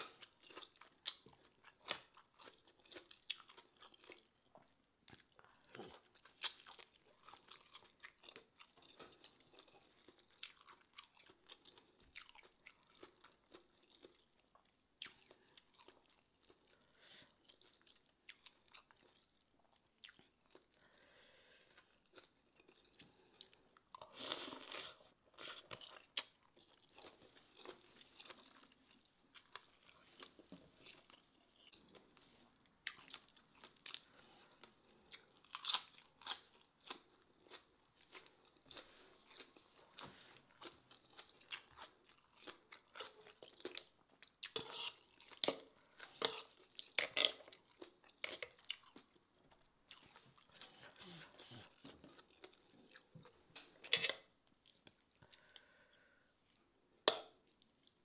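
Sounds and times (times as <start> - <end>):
person crunching and chewing food: 0.0 - 58.0.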